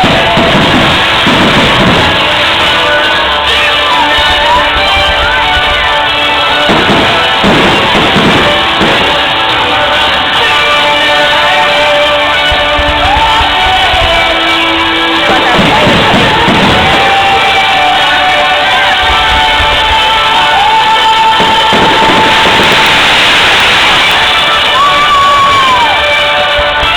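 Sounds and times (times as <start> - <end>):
loud rock music: 0.0 - 26.9.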